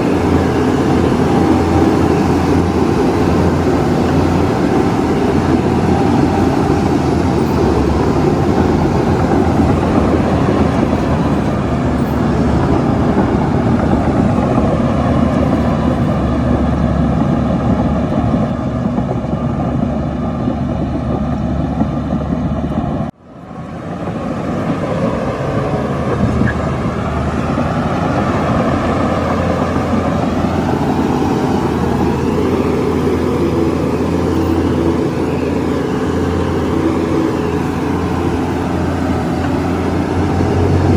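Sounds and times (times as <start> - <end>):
diesel machinery rumbling: 0.0 - 40.9.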